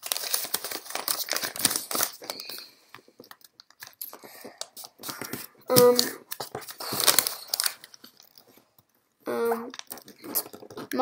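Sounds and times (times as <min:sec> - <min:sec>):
paper crinkling and rustling: 0:00.0 - 0:08.9, 0:09.7 - 0:11.0.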